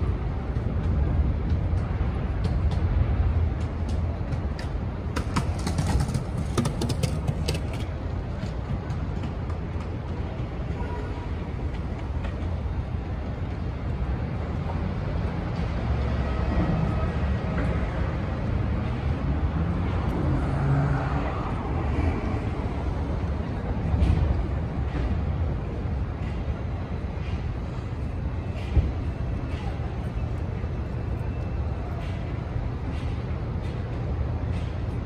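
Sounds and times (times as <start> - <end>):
rumble of passing cars and buses: 0.0 - 35.0.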